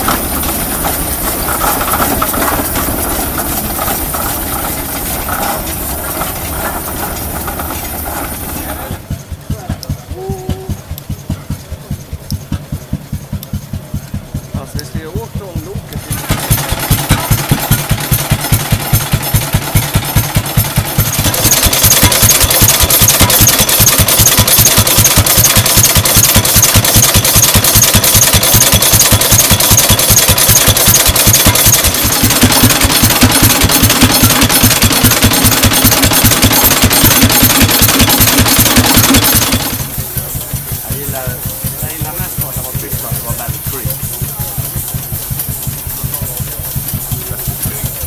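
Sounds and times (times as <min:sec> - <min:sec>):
tractor engines chugging: 0:00.0 - 0:48.0.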